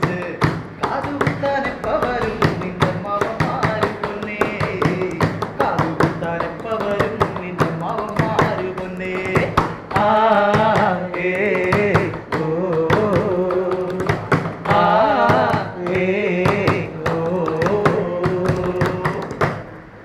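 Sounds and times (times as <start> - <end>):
man singing classical melody: 0.0 - 19.6
quick percussive strikes: 0.0 - 19.8.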